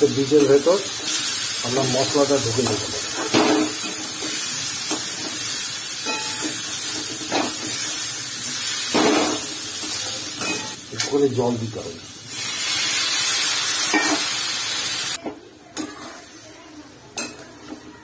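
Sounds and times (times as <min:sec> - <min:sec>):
food sizzling in pan: 0:00.0 - 0:18.0.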